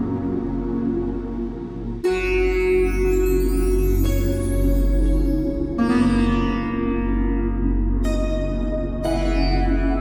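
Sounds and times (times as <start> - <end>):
steady low drone: 0.0 - 2.0, 2.8 - 10.0.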